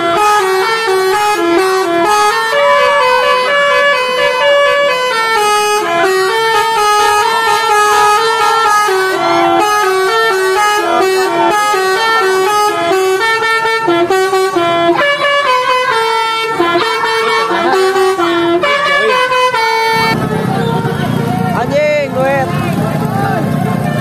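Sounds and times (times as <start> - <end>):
multi-trumpet bus horn melody: 0.0 - 21.3, 23.4 - 24.0.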